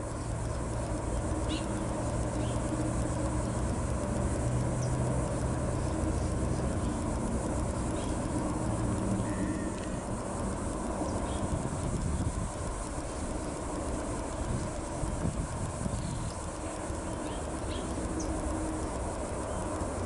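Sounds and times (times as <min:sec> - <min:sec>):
distant motor rumble: 0:00.0 - 0:20.0.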